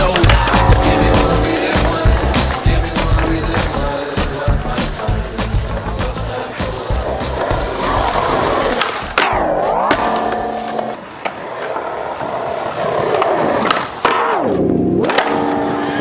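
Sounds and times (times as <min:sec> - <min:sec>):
skateboard clacking on ground: 0:00.0 - 0:04.2, 0:05.4 - 0:14.4
skateboard wheels rolling on concrete: 0:00.0 - 0:16.0.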